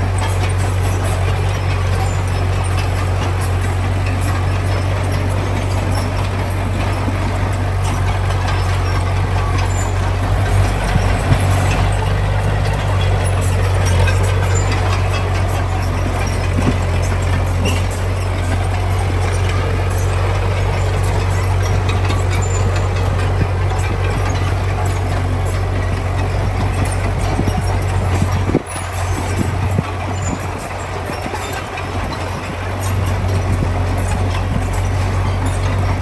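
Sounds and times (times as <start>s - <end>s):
diesel machinery engine drone: 0.0s - 36.0s.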